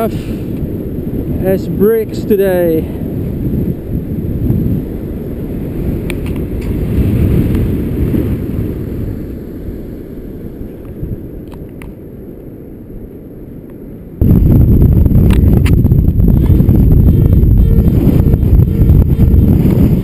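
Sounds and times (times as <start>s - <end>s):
wind buffeting microphone: 0.0s - 12.2s, 14.2s - 20.0s.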